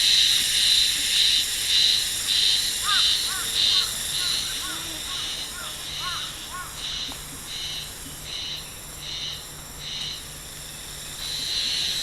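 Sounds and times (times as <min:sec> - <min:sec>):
insects calling in pulsing rhythm: 0:00.0 - 0:12.0.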